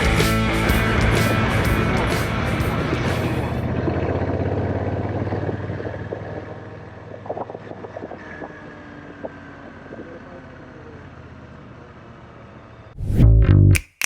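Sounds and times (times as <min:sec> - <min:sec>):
motorcycle engine humming: 0:00.0 - 0:13.2.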